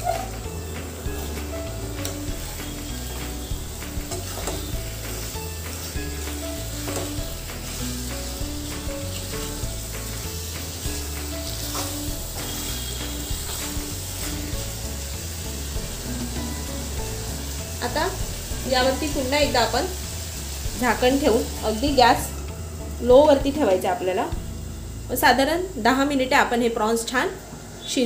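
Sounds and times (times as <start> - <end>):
food sizzling in a pan: 0.0 - 28.0
soft background music: 0.0 - 28.0.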